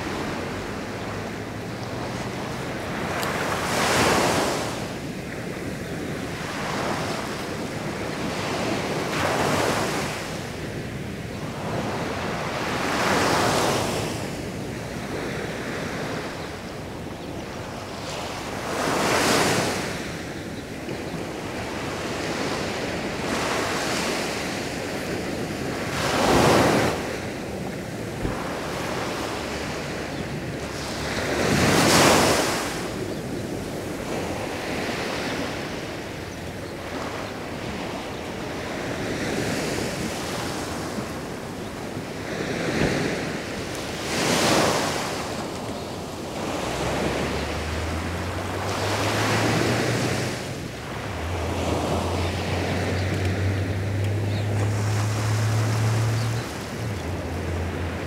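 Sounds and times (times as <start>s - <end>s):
steady wash of surf: 0.0s - 58.0s
waves crashing: 0.0s - 58.0s.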